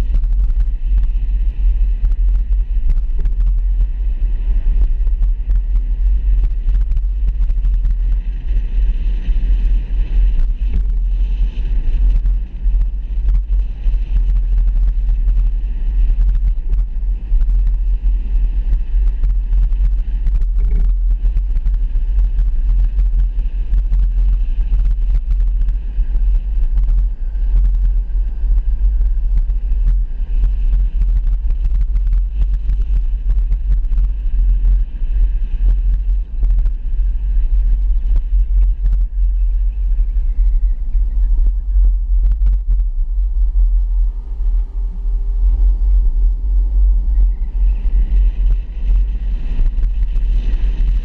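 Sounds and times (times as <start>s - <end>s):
car driving on road: 0.0s - 51.0s.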